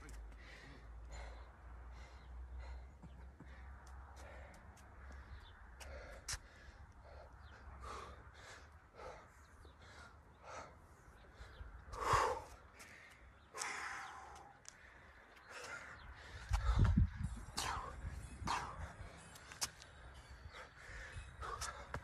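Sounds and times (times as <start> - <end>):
man breathing hard: 0.1 - 19.3, 20.4 - 22.0.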